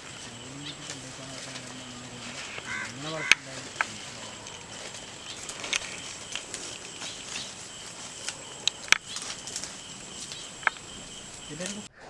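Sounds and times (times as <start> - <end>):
high insect drone: 0.0 - 11.9.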